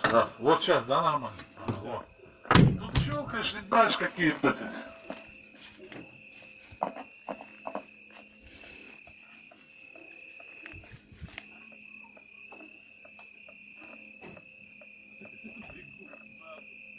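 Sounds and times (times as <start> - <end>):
crickets trilling: 0.0 - 16.9.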